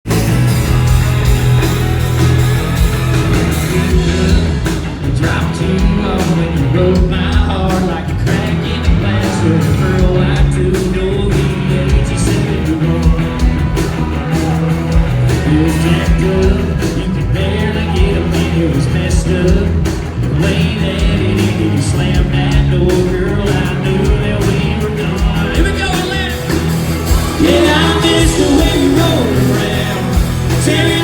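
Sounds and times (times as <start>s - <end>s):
country band playing live: 0.0s - 31.0s
person singing: 3.6s - 31.0s.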